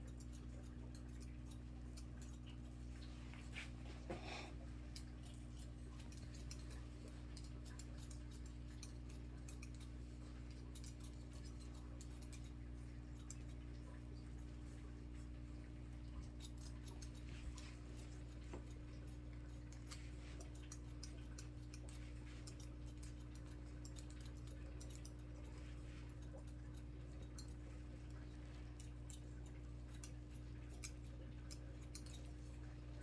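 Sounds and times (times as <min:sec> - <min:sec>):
scissors snipping hair: 0:00.0 - 0:13.9, 0:16.0 - 0:33.0
steady low hum: 0:00.0 - 0:33.0.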